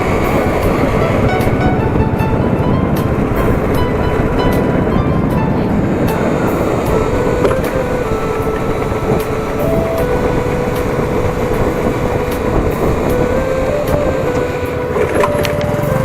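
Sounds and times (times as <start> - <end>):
motorcycle running: 0.0 - 16.0
wind rush: 0.0 - 16.0.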